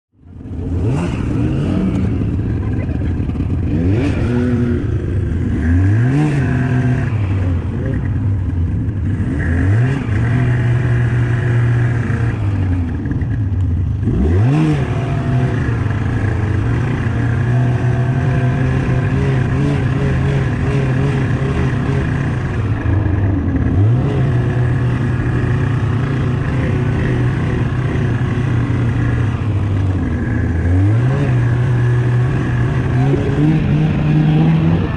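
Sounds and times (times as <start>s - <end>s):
snowmobile engine revving: 0.4s - 34.9s.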